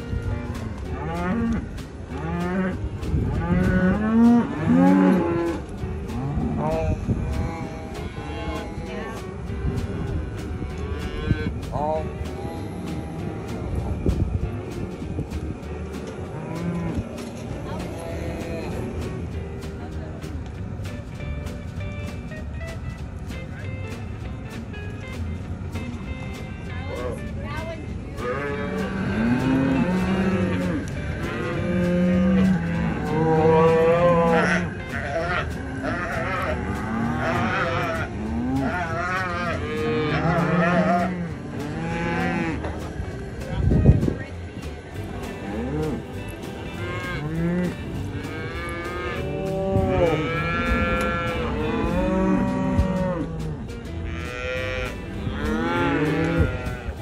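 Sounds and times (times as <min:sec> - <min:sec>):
calves bawling: 0:00.0 - 0:19.3, 0:28.2 - 0:57.0.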